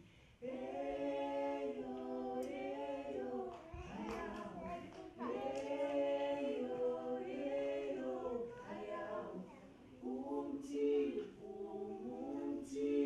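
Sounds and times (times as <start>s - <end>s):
voices singing a cappella: 0.0s - 13.0s.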